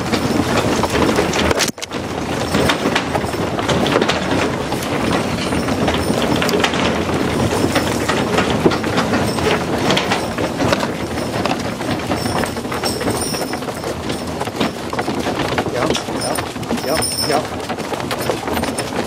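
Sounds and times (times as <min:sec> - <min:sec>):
galloping hoofbeats: 0:00.0 - 0:19.0
wagon rattling and clattering: 0:00.0 - 0:19.0.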